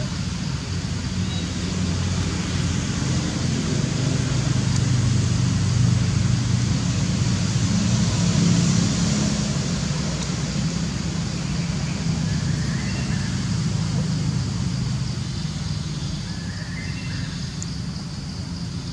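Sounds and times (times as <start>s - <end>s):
vehicle engine hum: 0.0s - 18.9s.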